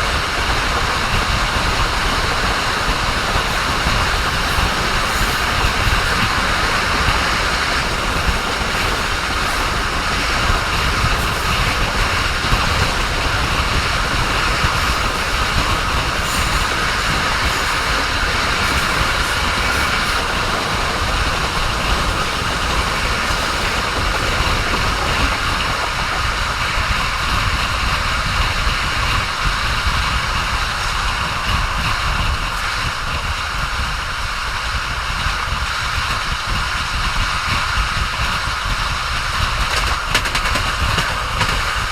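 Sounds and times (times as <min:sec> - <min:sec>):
train wheels rumbling on track: 0:00.0 - 0:41.9.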